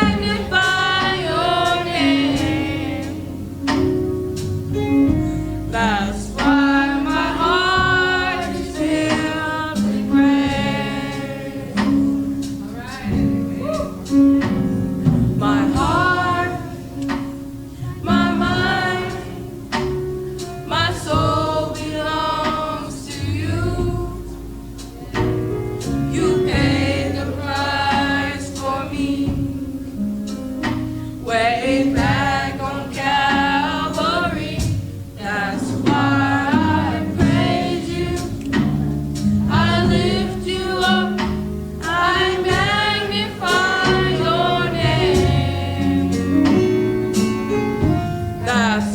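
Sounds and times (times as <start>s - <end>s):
choir singing gospel: 0.0s - 48.9s
instrumental accompaniment: 0.0s - 48.9s.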